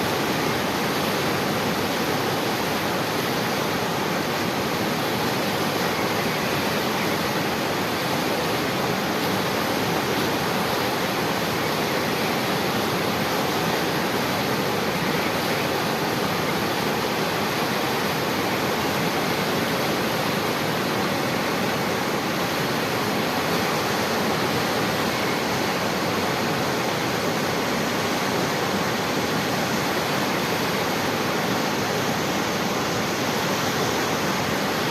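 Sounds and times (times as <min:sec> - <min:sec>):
flowing water rushing: 0:00.0 - 0:34.9.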